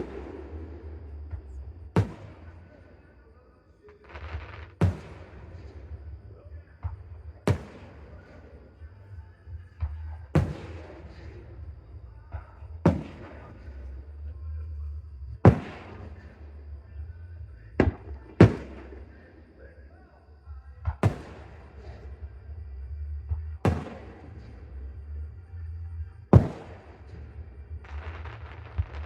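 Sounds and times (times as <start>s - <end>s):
fireworks bursting with echo: 0.0s - 29.0s.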